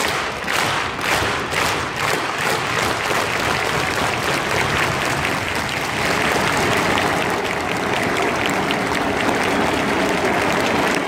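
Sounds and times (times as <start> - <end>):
stadium crowd cheering and clapping: 0.0 - 11.0.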